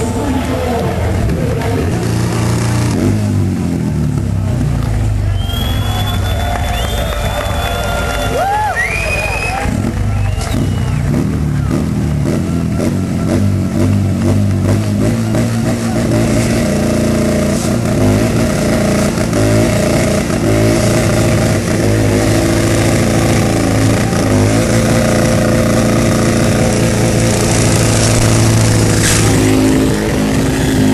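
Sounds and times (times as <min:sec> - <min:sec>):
motorcycle engine revving: 0:00.0 - 0:07.4, 0:09.4 - 0:30.9.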